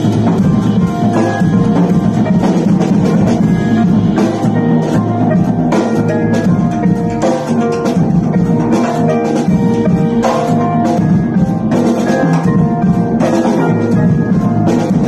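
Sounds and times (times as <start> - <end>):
drum kit playing: 0.0 - 15.0.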